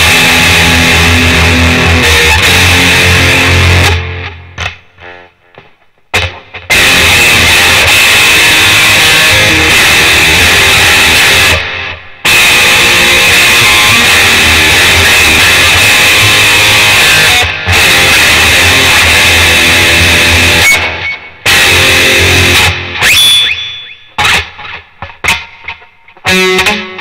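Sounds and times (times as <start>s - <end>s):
overdriven electric guitar: 0.0s - 27.0s.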